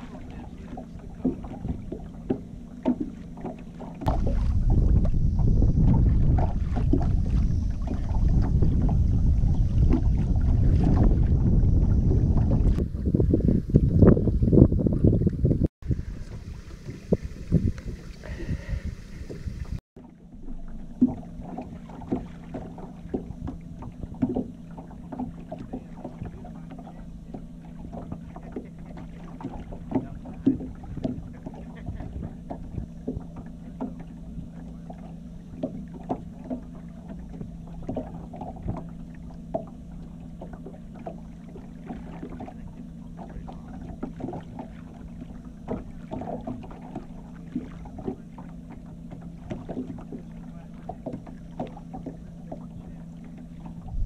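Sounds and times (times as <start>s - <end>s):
boat motor humming: 0.0s - 54.0s
waves slapping against hull: 0.0s - 54.0s.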